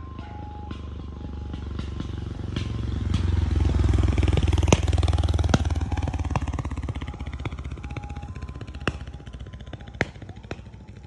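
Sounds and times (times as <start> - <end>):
small motorcycle engine passing: 0.0 - 11.0.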